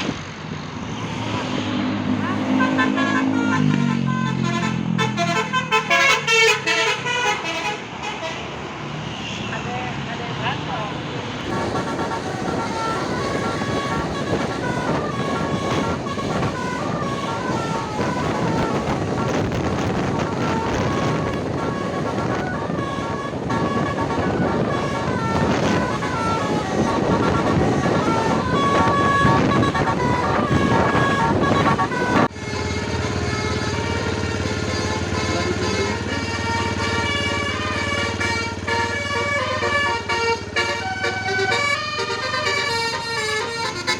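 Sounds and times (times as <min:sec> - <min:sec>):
road noise rushing: 0:00.0 - 0:43.9
bus horn playing a tune: 0:02.2 - 0:08.6, 0:11.5 - 0:43.9.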